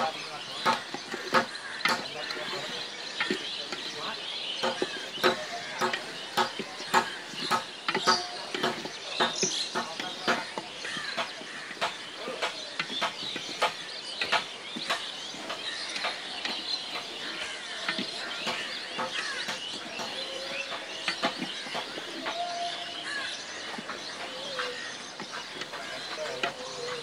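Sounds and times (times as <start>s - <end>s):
sharp knocks: 0.0s - 22.4s
small birds chirping: 0.0s - 27.0s.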